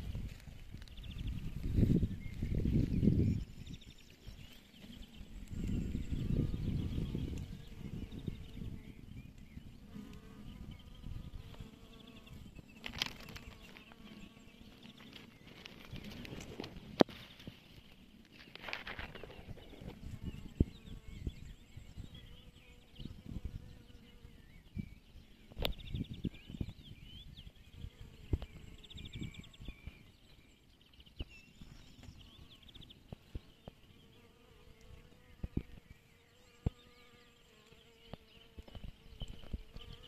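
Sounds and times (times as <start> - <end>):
insects buzzing: 0.0 - 30.0, 31.2 - 40.0.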